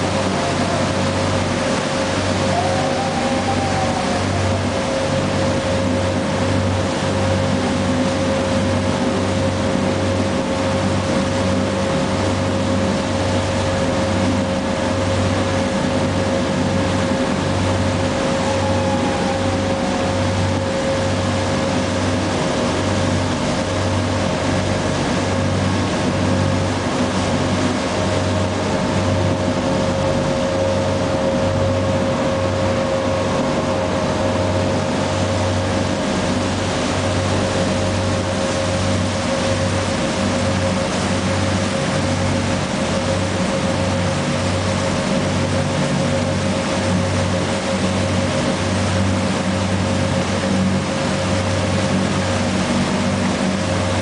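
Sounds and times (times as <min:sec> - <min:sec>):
boat engine pulsing hum: 0:00.0 - 0:54.0
engine whine: 0:00.0 - 0:54.0
wake water rushing: 0:00.0 - 0:54.0.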